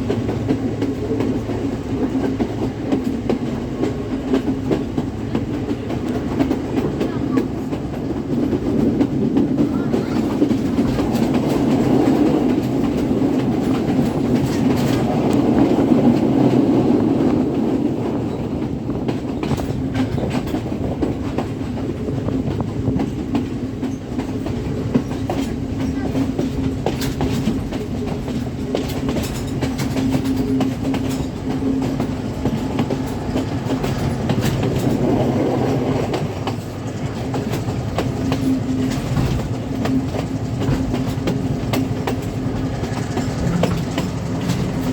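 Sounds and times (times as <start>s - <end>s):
train rumbling: 0.0s - 44.9s
wheels clacking over rail joints: 0.0s - 44.9s.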